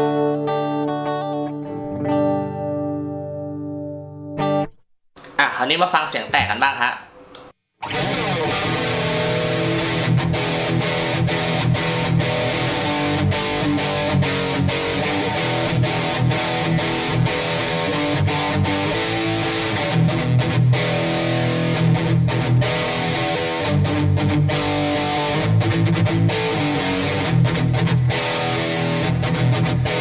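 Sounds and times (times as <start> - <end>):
distorted electric guitar riffs: 0.0 - 5.4, 7.8 - 30.0.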